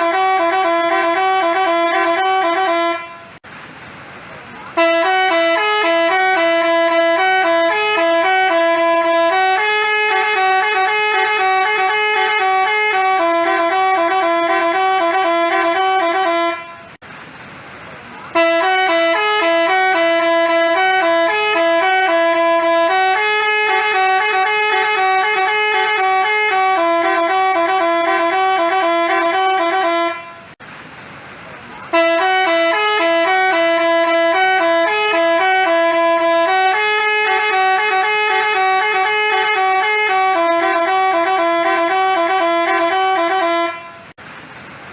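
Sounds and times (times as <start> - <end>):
multi-tone bus horn tune: 0.0 - 3.4, 4.7 - 17.0, 18.2 - 30.6, 31.9 - 44.2.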